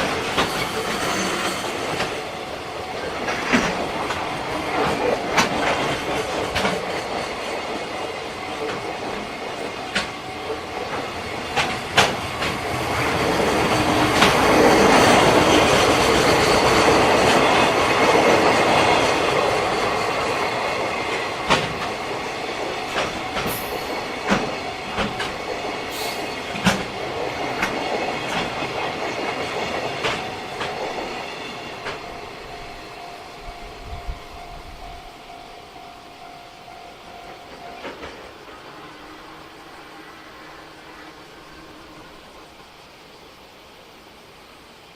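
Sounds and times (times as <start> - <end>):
freight train wheels clattering: 0.0 - 40.3.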